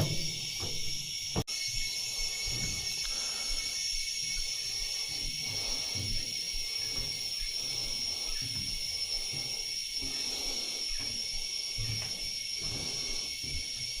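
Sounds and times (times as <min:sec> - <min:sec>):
insect chorus buzzing drone: 0:00.0 - 0:14.0.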